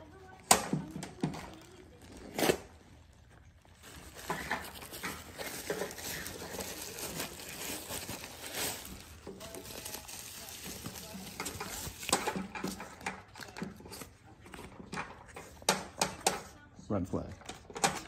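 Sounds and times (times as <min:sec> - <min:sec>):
packaging crinkling and tearing: 0:00.0 - 0:14.5
packaging rustling: 0:00.0 - 0:14.5.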